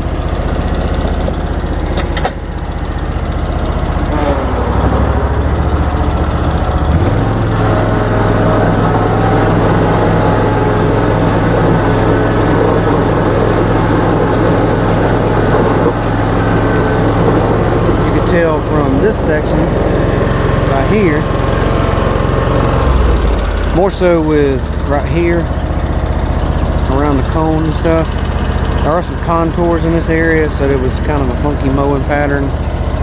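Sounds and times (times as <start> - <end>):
riding lawn mower engine running: 0.0 - 33.0.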